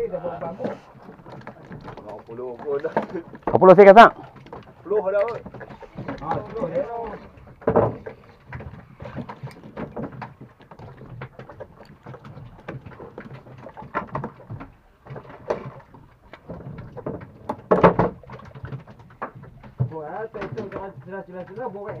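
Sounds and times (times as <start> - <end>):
water slapping against hull: 0.0 - 22.0
knocks and clatter: 0.7 - 22.0.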